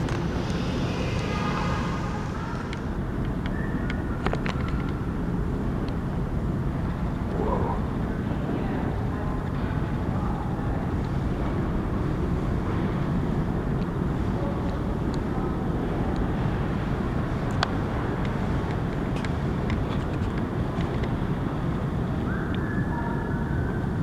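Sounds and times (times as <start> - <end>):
train wheels rumbling on rail: 0.0 - 7.3, 7.9 - 22.3.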